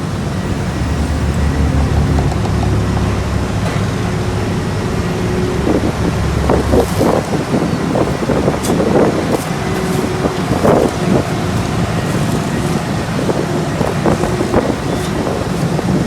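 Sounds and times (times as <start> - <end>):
diesel engines running: 0.0 - 16.0
wind buffeting microphone: 0.0 - 16.0.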